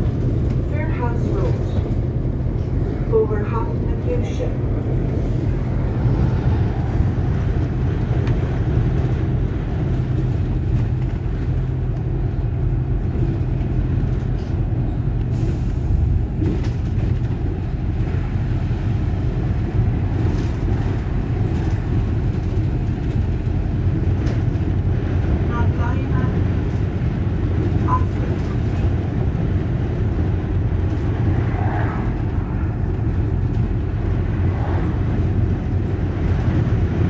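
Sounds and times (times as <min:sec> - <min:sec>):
bus engine hum: 0:00.0 - 0:37.0
road noise: 0:00.0 - 0:37.0.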